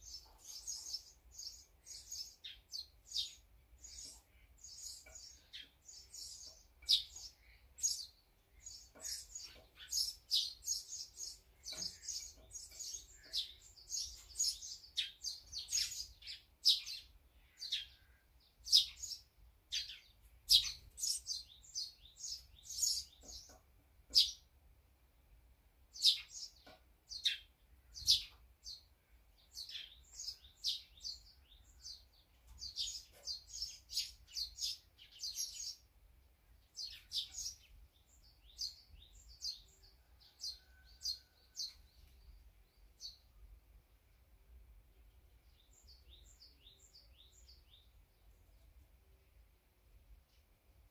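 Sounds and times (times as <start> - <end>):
small songbirds chirping: 0.0 - 50.9.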